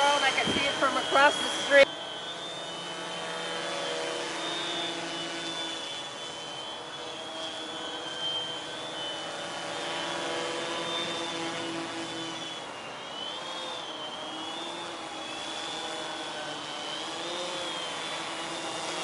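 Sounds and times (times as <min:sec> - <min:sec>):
drone buzzing hum: 0:00.0 - 0:19.0.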